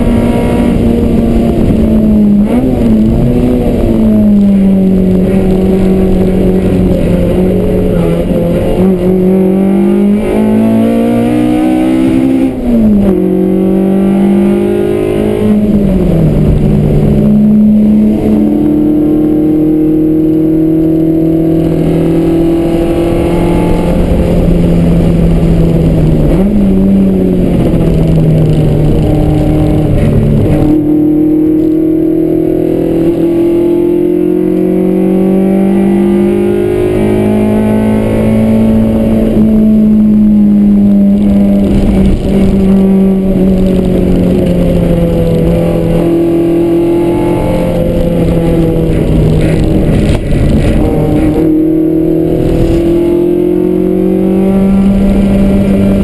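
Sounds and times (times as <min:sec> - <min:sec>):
car engine driven hard: 0:00.0 - 0:56.0.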